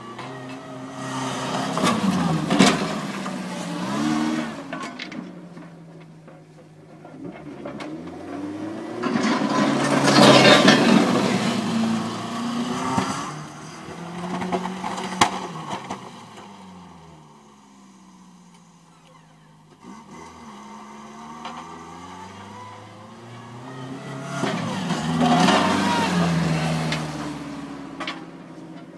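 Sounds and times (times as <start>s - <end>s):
pickup truck engine revving: 0.0s - 5.7s, 7.0s - 28.9s.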